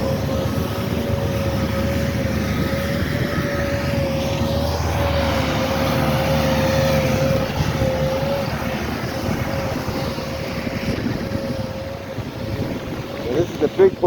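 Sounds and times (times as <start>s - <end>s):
continuous machine whine: 0.0s - 14.0s
diesel engine rumble: 0.0s - 14.0s.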